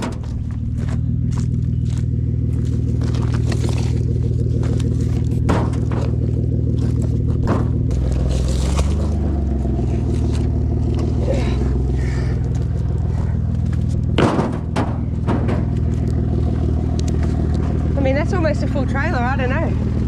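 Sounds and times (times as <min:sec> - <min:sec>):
scraping and knocking sounds: 0:00.0 - 0:17.9
vehicle engine idling: 0:00.0 - 0:20.0.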